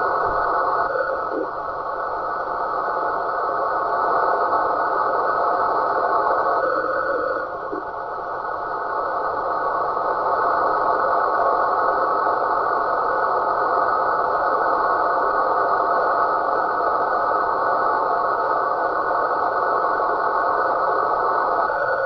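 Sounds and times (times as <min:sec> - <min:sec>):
faint steady tones: 0:00.0 - 0:22.0
narrowband radio hiss: 0:00.0 - 0:22.0.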